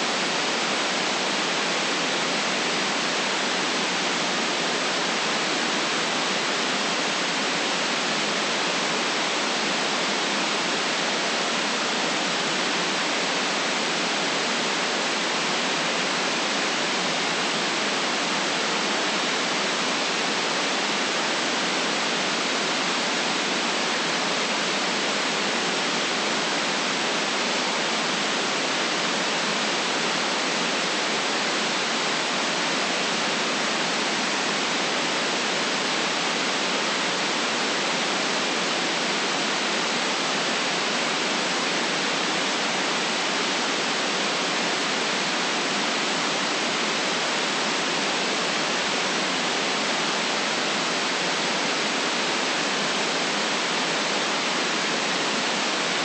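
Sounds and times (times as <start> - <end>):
steady white noise hiss: 0.0 - 56.0.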